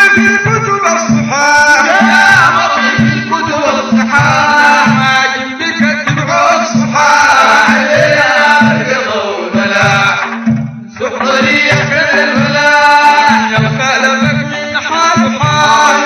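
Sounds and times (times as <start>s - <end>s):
low drum beat: 0.0s - 16.0s
men chanting: 0.0s - 16.0s.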